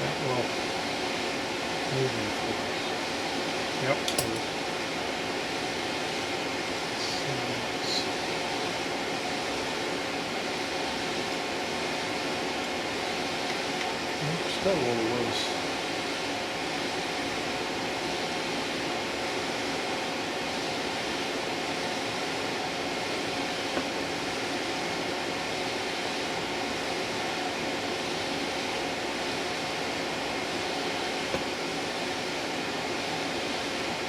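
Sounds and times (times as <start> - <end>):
fan-like background noise: 0.0 - 34.0.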